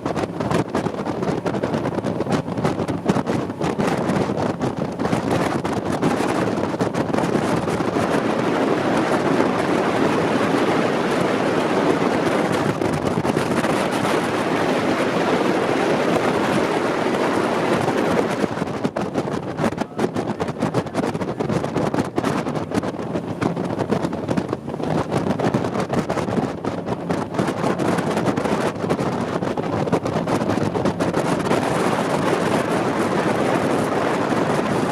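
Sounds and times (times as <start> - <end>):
jet boat engine and water: 0.0 - 34.9
wind buffeting microphone: 0.0 - 34.9.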